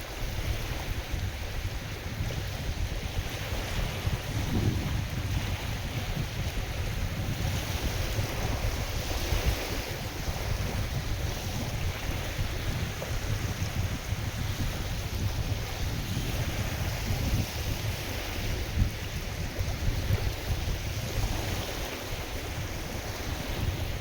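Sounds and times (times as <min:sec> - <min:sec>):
waves on lake: 0:00.0 - 0:24.0
wind gusting over microphone: 0:00.0 - 0:24.0.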